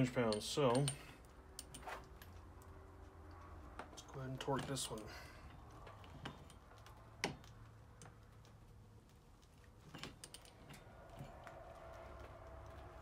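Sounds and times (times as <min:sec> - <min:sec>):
light metal clicks and taps: 0:00.0 - 0:11.6.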